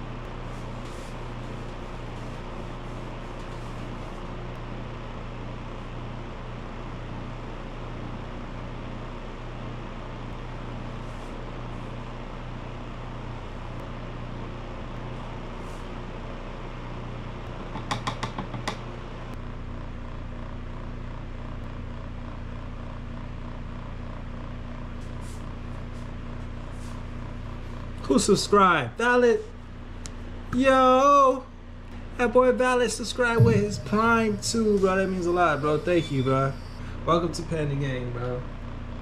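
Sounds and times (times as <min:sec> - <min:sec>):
whirring room noise with hum: 0:00.0 - 0:39.0.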